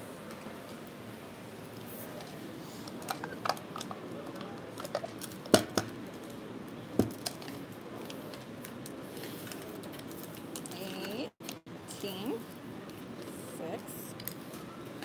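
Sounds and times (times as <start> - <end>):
casino background murmur: 1.9 - 14.9.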